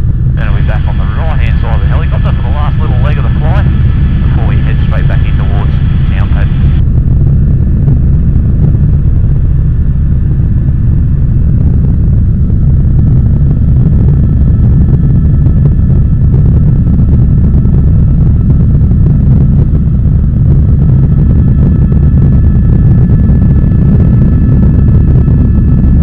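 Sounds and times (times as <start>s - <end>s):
faint steady whine: 0.0s - 26.0s
helicopter engine and rotor drone: 0.0s - 26.0s.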